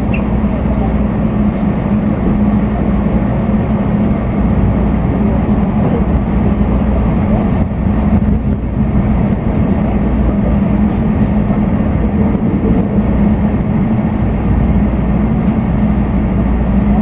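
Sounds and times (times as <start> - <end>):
train cabin rumble: 0.0 - 17.0.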